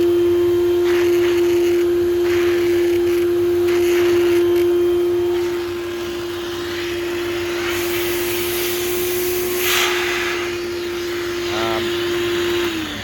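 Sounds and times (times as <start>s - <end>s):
vacuum cleaner running: 0.0s - 13.0s
suction hiss: 0.6s - 13.0s.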